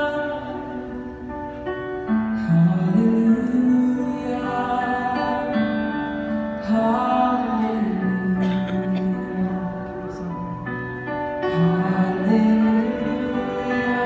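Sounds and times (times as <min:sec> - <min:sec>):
live slow ballad music: 0:00.0 - 0:14.0.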